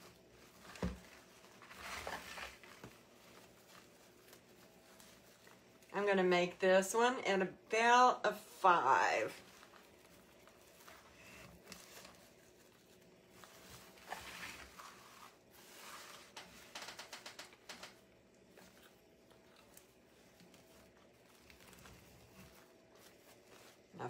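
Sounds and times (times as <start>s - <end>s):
ribbon rustling and crinkling: 0.0s - 6.0s, 8.4s - 24.0s.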